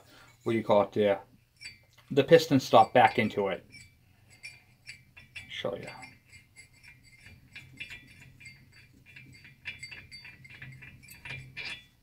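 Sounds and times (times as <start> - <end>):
metal tools clinking: 1.6 - 12.0.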